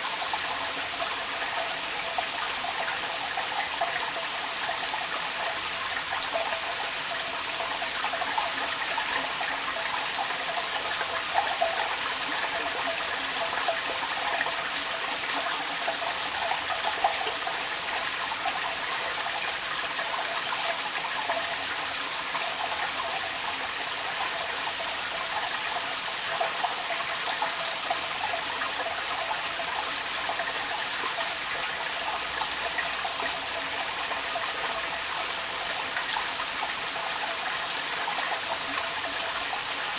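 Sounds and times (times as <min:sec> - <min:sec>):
rainwater running from downpipe: 0:00.0 - 0:39.9.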